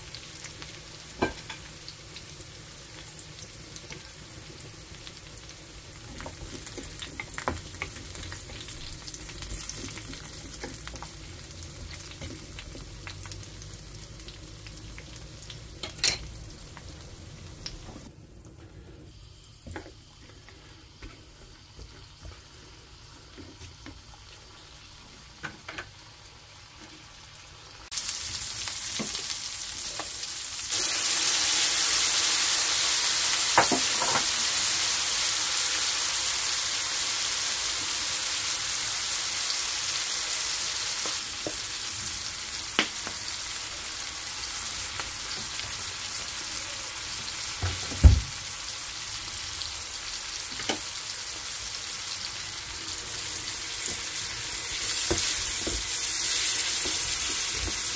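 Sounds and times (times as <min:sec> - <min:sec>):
vegetables sizzling in oil: 0:00.0 - 0:18.1, 0:19.1 - 0:57.9.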